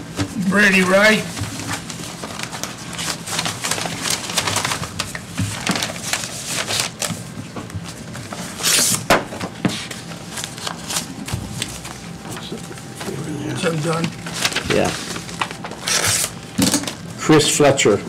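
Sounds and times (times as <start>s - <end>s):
paper rustling: 0.9s - 17.0s.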